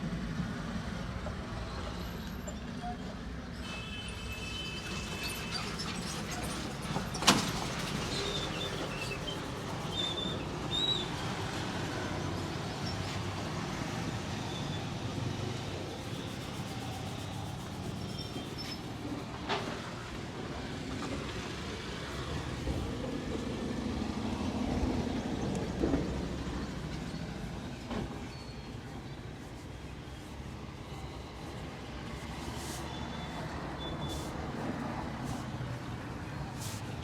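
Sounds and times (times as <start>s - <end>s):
low rumble of traffic: 0.0s - 37.0s.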